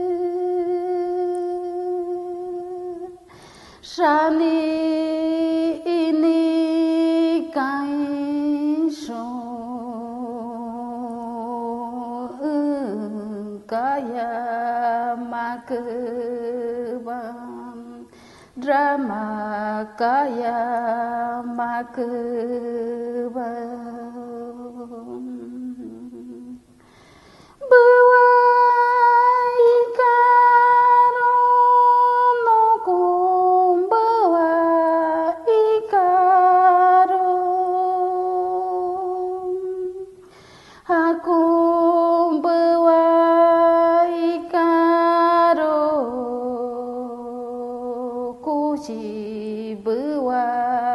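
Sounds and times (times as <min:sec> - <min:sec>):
woman singing a chant: 0:00.0 - 0:26.7, 0:27.6 - 0:50.9.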